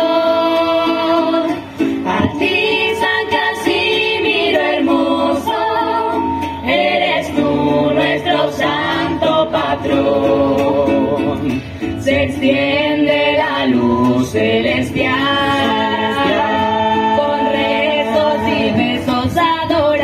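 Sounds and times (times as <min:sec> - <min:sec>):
group singing in harmony: 0:00.0 - 0:20.0
strummed cuatro: 0:00.0 - 0:20.0.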